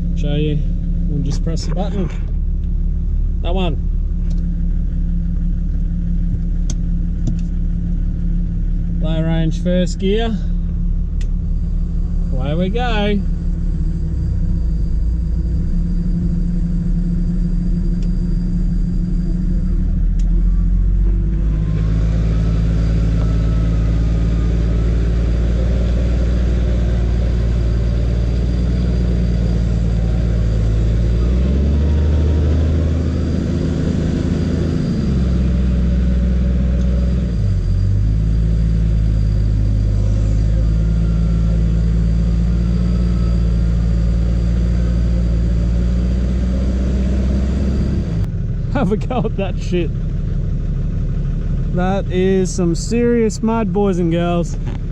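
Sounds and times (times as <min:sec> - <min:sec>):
faint wavering whine: 0:00.0 - 0:54.8
truck engine running: 0:00.0 - 0:54.9.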